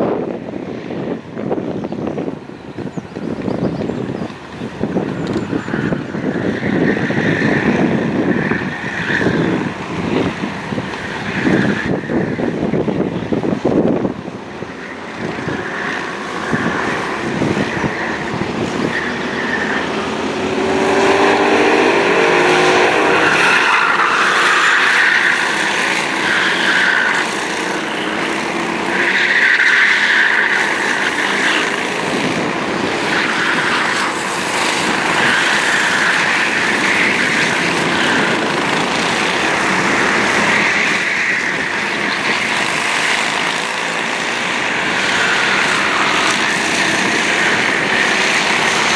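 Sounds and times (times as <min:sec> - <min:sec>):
racing kart engines: 0:00.0 - 0:48.9.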